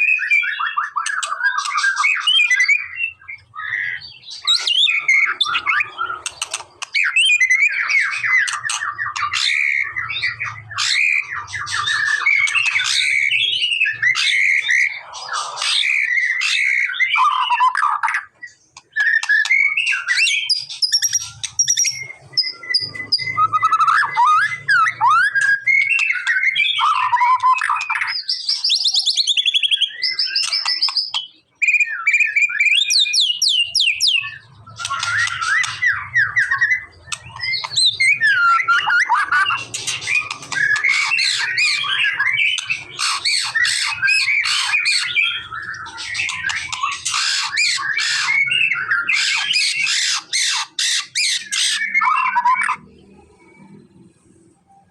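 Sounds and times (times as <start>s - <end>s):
bird singing whistles and trills: 0.0s - 53.8s.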